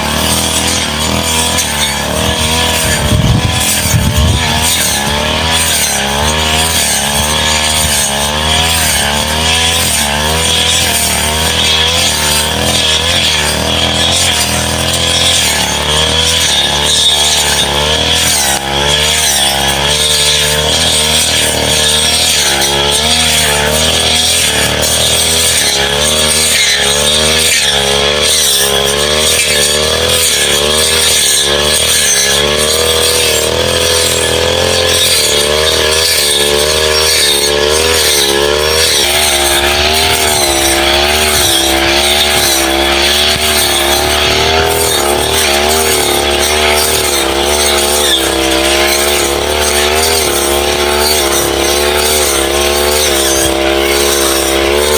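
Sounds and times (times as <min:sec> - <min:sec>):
brush cutter engine running: 0:00.0 - 0:54.9.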